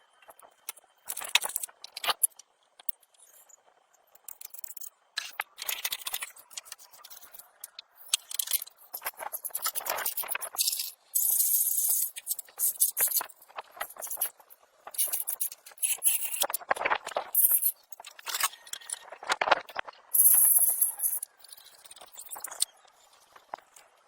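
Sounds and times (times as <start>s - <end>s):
scraping and clicking: 0.2s - 3.4s, 4.2s - 23.9s.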